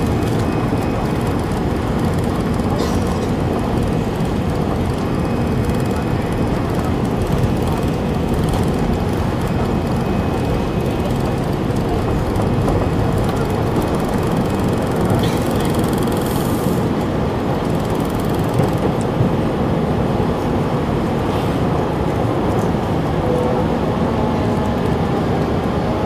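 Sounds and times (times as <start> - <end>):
airplane engine and rushing air: 0.0 - 26.0.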